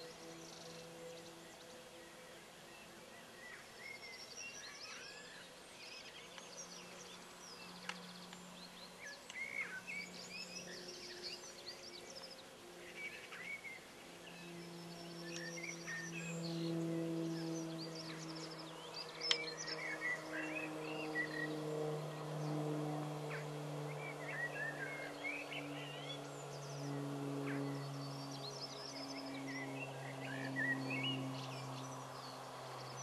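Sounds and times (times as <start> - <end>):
small birds chirping: 0.0 - 33.0
steady low hum: 0.0 - 33.0.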